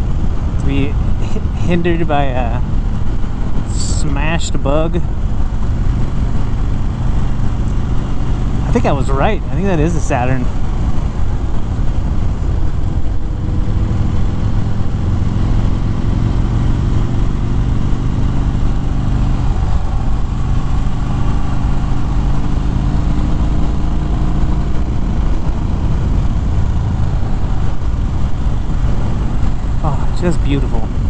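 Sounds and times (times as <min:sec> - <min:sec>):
motorcycle engine running: 0:00.0 - 0:31.0
wind and road noise: 0:00.0 - 0:31.0.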